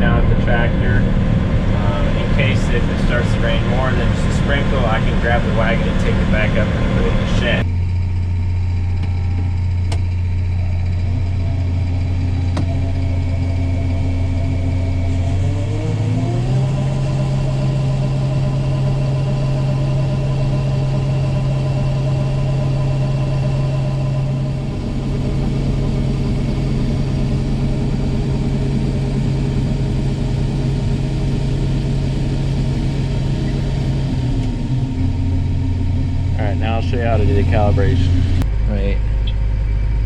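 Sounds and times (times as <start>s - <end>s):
tractor engine revving: 0.0s - 40.0s.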